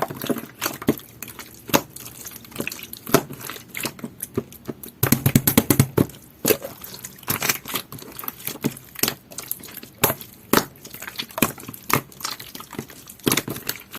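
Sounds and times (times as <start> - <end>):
slime squished by hand: 0.0 - 13.9.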